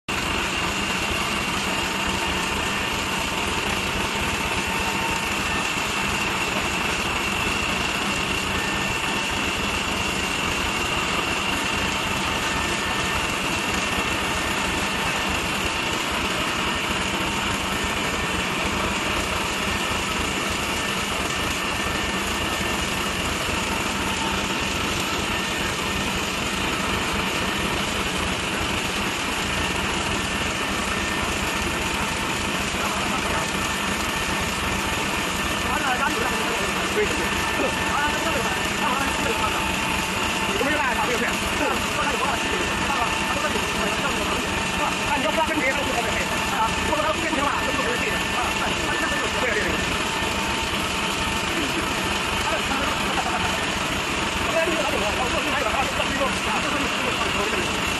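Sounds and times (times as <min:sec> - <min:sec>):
hydraulic rock drill running: 0:00.1 - 0:57.9.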